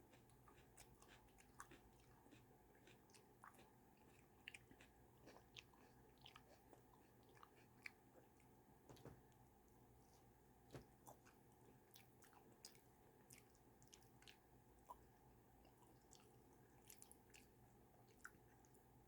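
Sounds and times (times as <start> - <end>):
chewing sandwich: 0.0 - 9.9, 10.6 - 19.0
low steady hum: 0.0 - 19.0.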